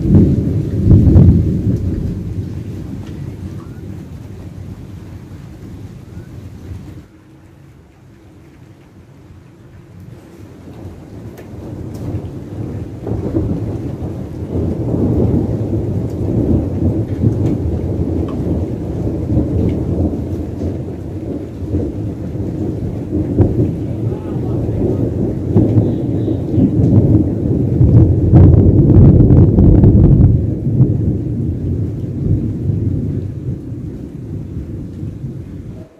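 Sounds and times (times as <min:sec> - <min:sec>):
rolling thunder rumble: 0:00.0 - 0:35.9.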